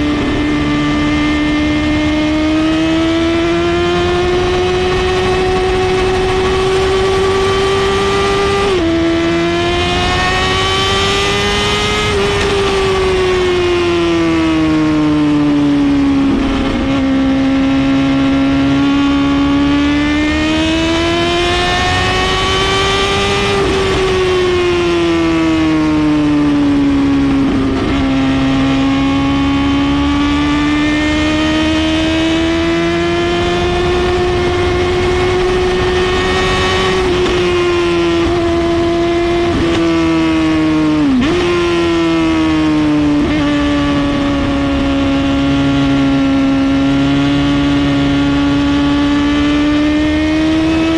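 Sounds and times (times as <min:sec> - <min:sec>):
loud motorcycle engine revving: 0:00.0 - 0:50.9.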